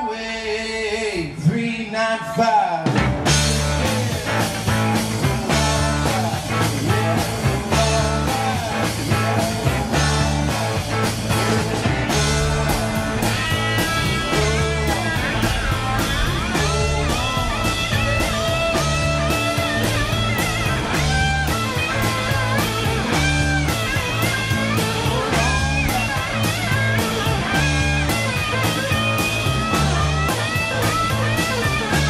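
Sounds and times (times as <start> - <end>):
bass guitar notes: 0.0 - 32.0
electric guitar lead line: 0.0 - 32.0
drum kit with cymbals: 2.8 - 32.0.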